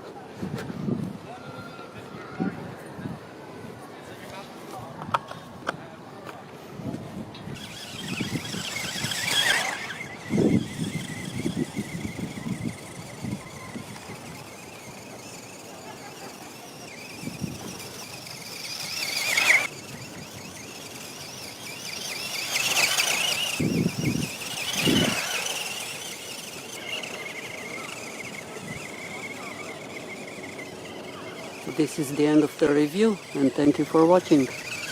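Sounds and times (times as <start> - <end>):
rc car motor whining: 6.9 - 34.9.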